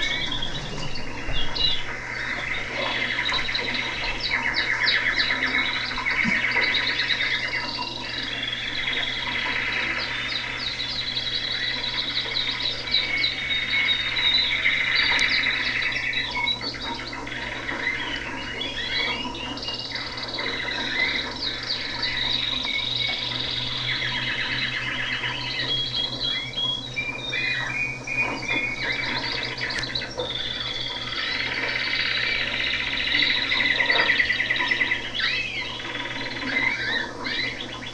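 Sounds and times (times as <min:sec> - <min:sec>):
small birds chirping and trilling: 0:00.0 - 0:37.9
steady low hum: 0:00.0 - 0:37.9.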